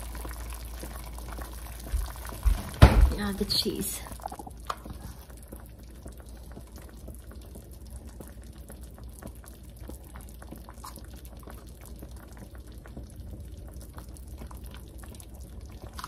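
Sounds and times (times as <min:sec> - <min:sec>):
low steady hum: 0:00.0 - 0:16.0
stew bubbles popping: 0:00.0 - 0:16.0.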